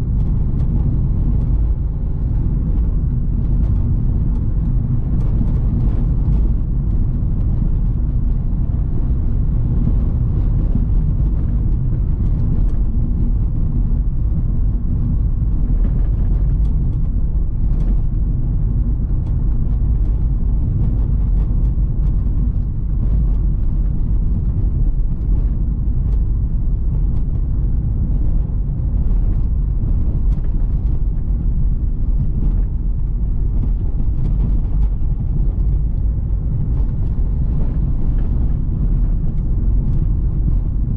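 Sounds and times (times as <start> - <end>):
car engine and tyres rumbling: 0.0 - 40.9.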